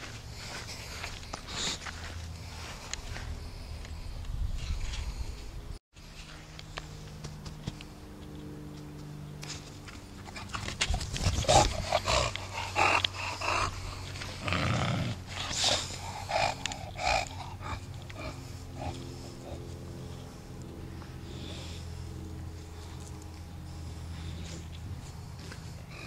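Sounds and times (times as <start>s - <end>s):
dog breathing hard and snuffling: 0.0s - 5.5s, 9.8s - 26.0s.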